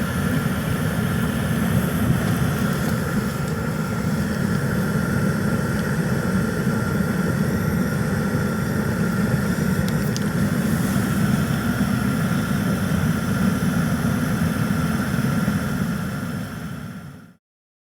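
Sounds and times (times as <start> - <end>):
thin steady whine: 0.0 - 17.4.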